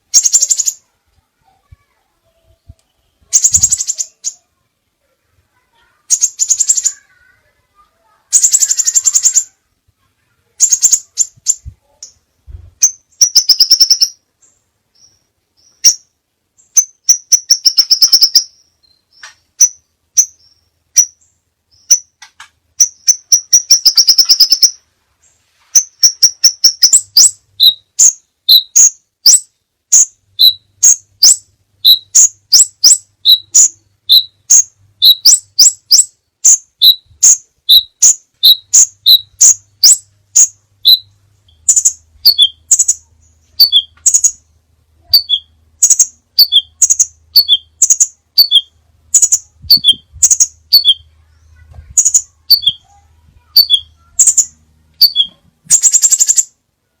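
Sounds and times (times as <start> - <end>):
bird singing rapid trills: 0.0 - 0.9, 2.9 - 4.5, 6.0 - 7.4, 8.3 - 9.6, 10.6 - 12.2, 12.8 - 22.2, 22.8 - 24.8, 25.8 - 56.6.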